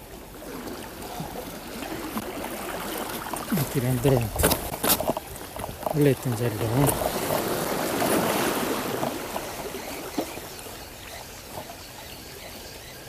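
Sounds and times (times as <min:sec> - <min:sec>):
water rushing and splashing: 0:00.0 - 0:13.0.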